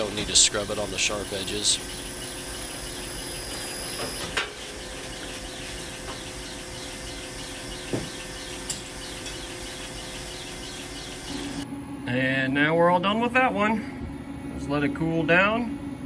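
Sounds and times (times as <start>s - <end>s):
rolling mill humming and chattering: 0.0s - 16.0s.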